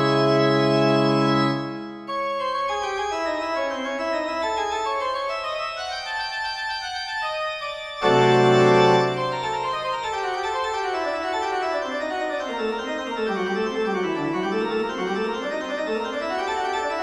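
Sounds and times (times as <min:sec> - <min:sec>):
organ-like keyboard music: 0:00.0 - 0:17.0.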